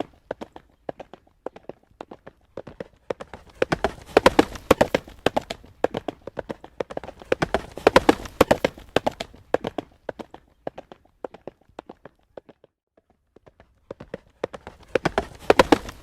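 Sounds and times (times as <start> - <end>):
hooves clip-clopping on road: 0.0 - 16.0.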